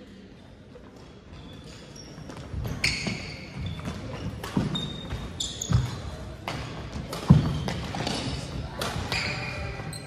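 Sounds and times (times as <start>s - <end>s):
sneakers squeaking on gym floor: 1.0s - 10.0s.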